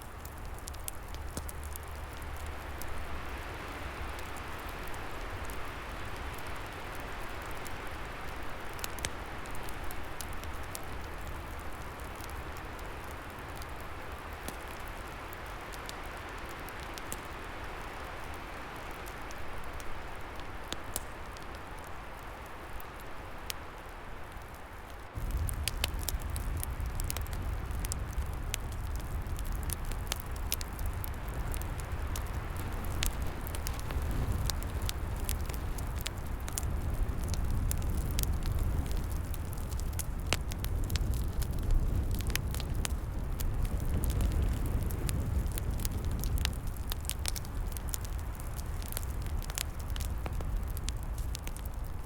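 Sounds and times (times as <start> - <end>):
fire rumble and hiss: 0.0 - 52.0
wood fire crackling and popping: 0.0 - 52.0.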